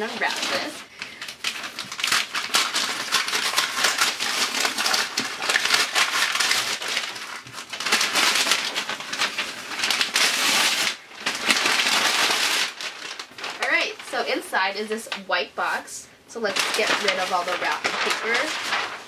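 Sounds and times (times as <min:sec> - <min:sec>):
paper tearing and crumpling: 0:00.0 - 0:14.4, 0:16.4 - 0:19.0.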